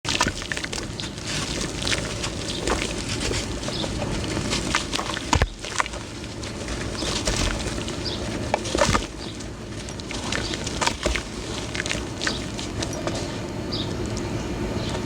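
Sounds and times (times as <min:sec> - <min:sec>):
chunks crunching and crumbling: 0:00.0 - 0:15.0.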